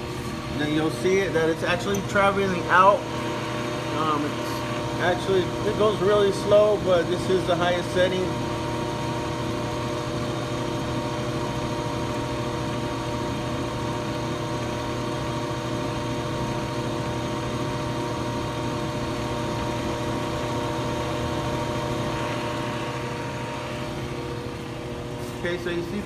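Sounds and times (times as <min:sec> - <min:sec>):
brake lathe machine hum: 0:00.0 - 0:26.0.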